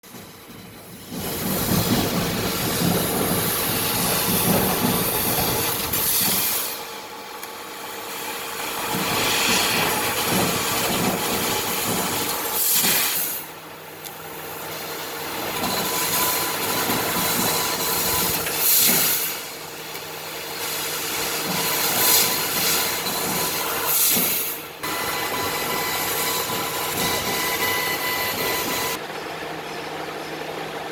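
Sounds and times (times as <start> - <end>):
laser cutting machine hiss: 0.1 - 29.0
faint motor whine: 0.1 - 30.9.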